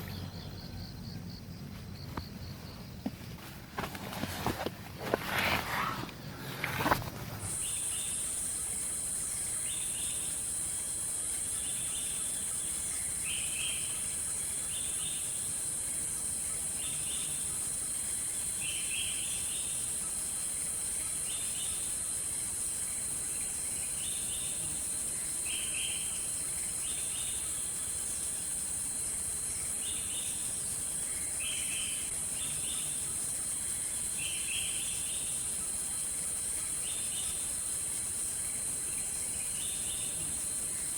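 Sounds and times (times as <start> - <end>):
insect chirping calls: 0.0 - 40.9
insects droning shrill: 3.8 - 40.9.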